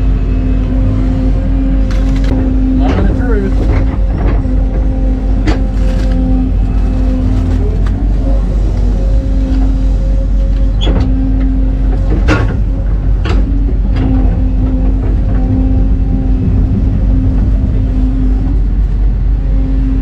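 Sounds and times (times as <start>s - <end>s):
excavator diesel engine rumble: 0.0s - 20.0s.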